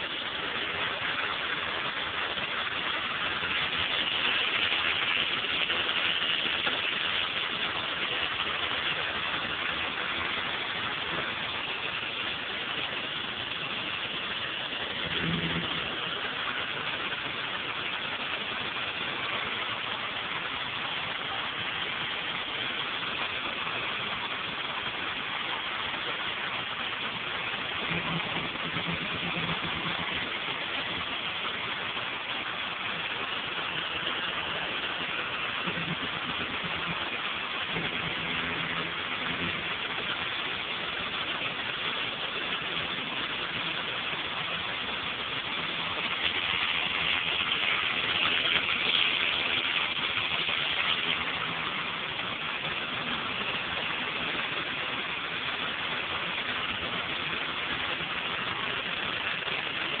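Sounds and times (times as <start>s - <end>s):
pressure washer engine running: 0.0s - 60.0s
water jet hissing on concrete: 0.0s - 60.0s.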